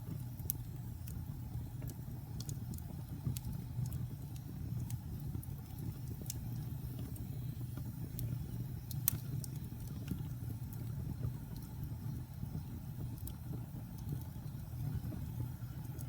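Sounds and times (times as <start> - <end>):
fire low rumble: 0.0 - 16.0
logs crackling and popping: 0.1 - 16.0.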